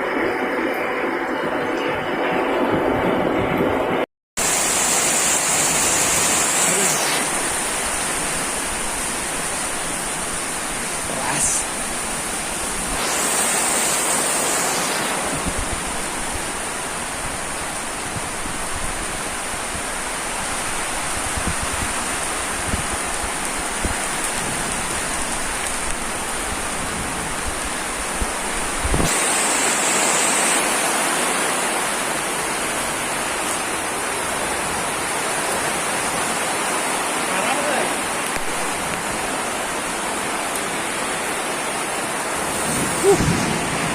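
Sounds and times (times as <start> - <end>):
wind: 0.0 - 43.9
heavy rain pouring: 4.4 - 43.9.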